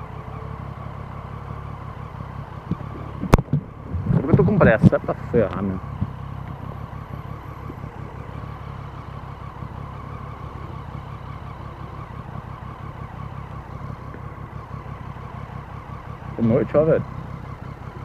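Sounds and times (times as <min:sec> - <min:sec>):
motorcycle engine running evenly: 0:00.0 - 0:18.0
road and wind noise: 0:00.0 - 0:18.0.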